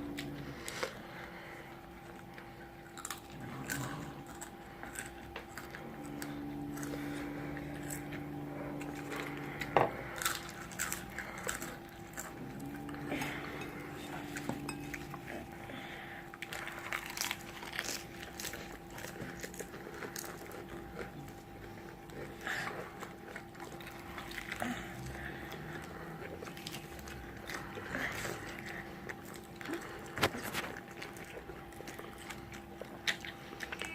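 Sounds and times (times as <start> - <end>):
low steady hum: 0.0 - 33.9
crunching crispy fried food: 1.9 - 15.6, 16.3 - 33.9.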